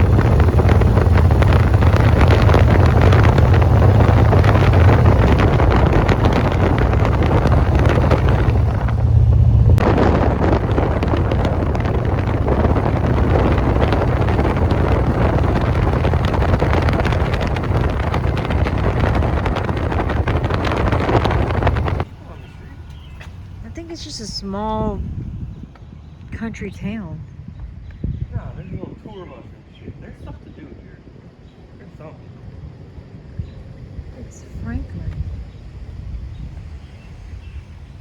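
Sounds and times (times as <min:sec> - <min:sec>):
moving car rumble: 0:00.0 - 0:28.3, 0:31.0 - 0:38.0
wind buffeting microphone: 0:00.0 - 0:38.0.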